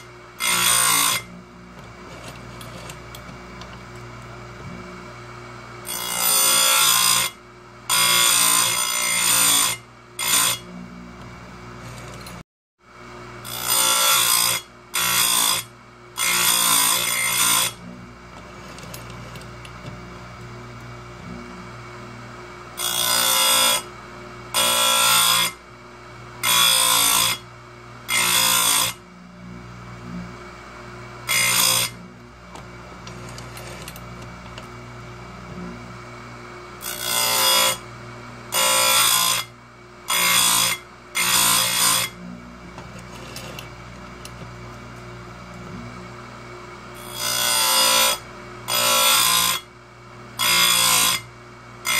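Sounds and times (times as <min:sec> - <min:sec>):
grinder motor humming: 0:00.0 - 0:12.4, 0:13.0 - 0:51.9.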